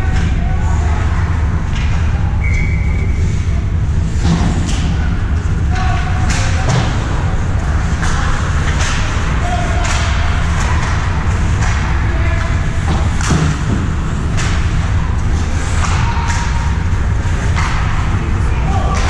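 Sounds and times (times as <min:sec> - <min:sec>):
hockey sticks and puck clacking: 0:00.0 - 0:03.4, 0:04.1 - 0:19.0
low rumble: 0:00.0 - 0:19.0.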